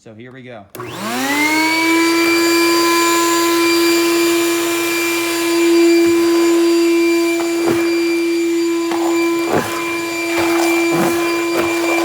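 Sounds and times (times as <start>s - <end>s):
shop vacuum whining: 0.7s - 12.0s.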